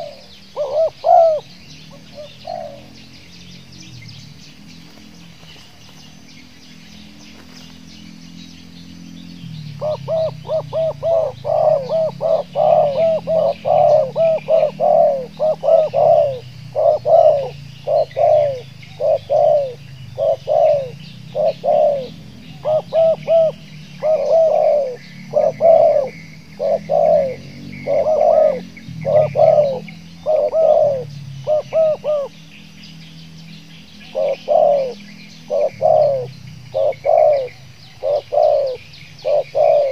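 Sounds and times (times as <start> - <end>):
dove cooing: 0.0 - 6.0, 9.7 - 32.5, 33.8 - 39.9.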